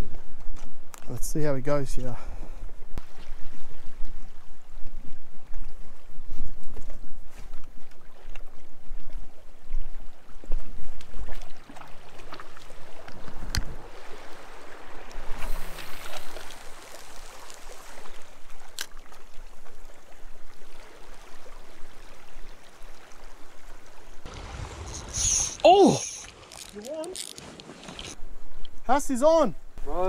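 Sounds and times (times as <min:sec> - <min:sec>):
waves lapping against rocks: 0:03.0 - 0:28.5.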